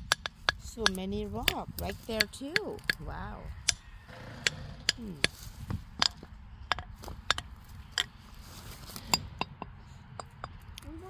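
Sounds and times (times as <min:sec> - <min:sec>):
loose stones clinking: 0:00.0 - 0:10.9.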